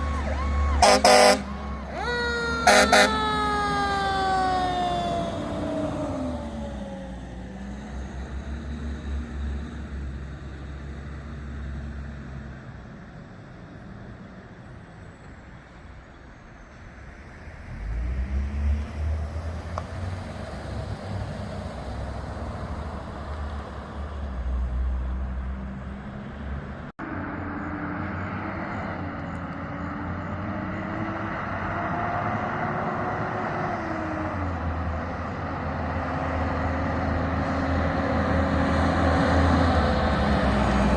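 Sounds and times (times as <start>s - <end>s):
diesel trucks accelerating: 0.0s - 40.9s.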